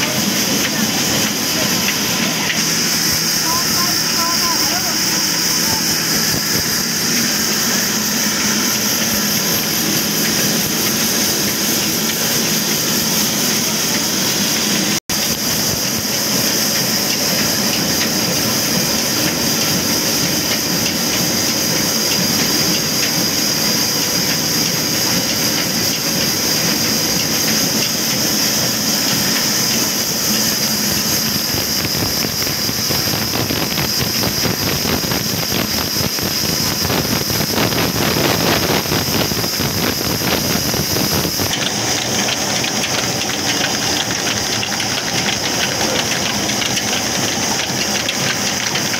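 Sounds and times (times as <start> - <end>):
diesel engine drone: 0.0 - 48.9.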